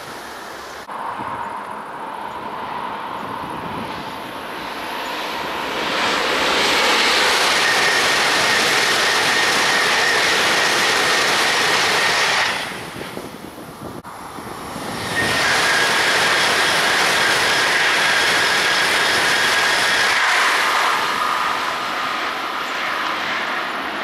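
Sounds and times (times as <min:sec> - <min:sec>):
high-speed train passing: 0:00.0 - 0:24.0.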